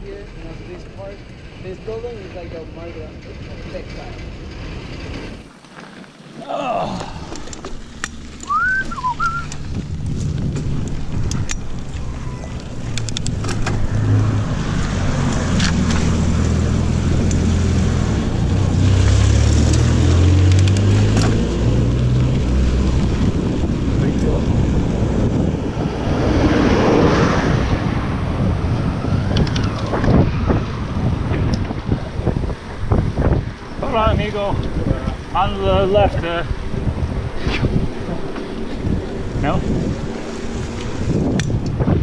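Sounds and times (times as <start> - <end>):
road traffic noise: 0.0 - 42.0
wind across microphone: 8.3 - 42.0.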